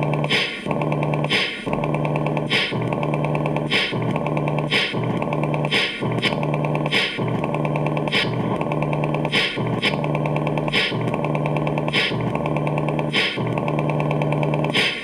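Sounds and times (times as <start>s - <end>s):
electronic music with beat: 0.0s - 15.0s.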